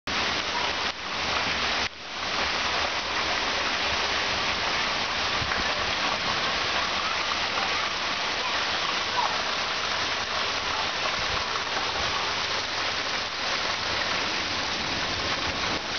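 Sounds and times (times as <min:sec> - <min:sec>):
heavy rain pouring: 0:00.1 - 0:15.9.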